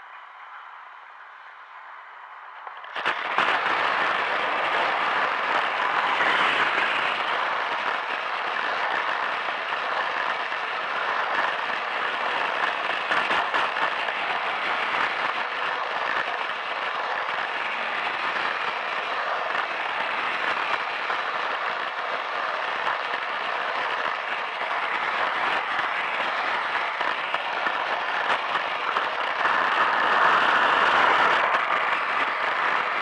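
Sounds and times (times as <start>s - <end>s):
toy train clattering on track: 2.7s - 33.0s.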